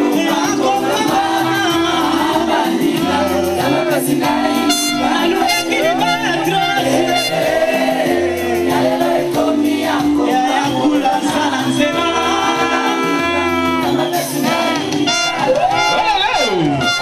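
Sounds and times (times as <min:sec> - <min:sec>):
dance music with singing: 0:00.0 - 0:17.0.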